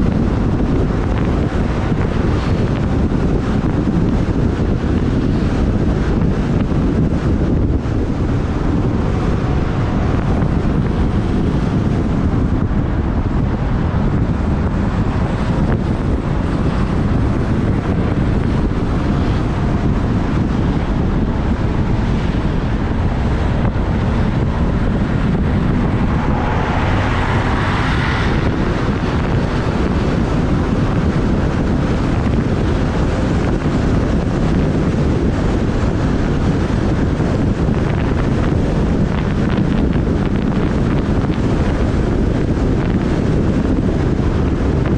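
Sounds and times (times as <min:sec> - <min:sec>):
traffic: 0:00.0 - 0:44.9
wind buffeting microphone: 0:00.0 - 0:44.9.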